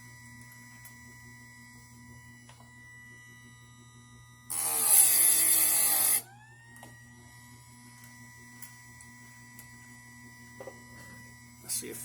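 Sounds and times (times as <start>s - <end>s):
grinding wheel motor whine: 0.0s - 12.0s.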